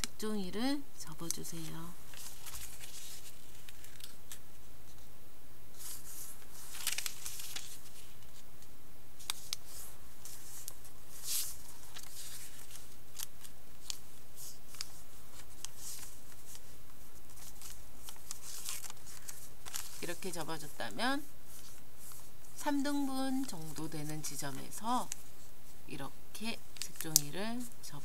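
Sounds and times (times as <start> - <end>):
crisp paper crackles: 1.3 - 4.4, 5.8 - 8.4, 9.2 - 25.4, 26.5 - 28.0
paper rustling: 1.5 - 5.1, 5.8 - 8.4, 9.2 - 25.5, 26.7 - 27.7.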